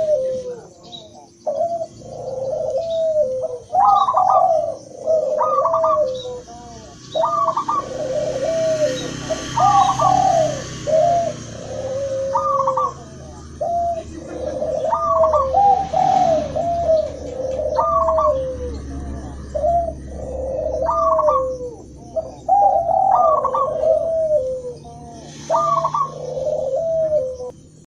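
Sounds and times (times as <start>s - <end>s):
doves cooing: 0.0s - 27.9s.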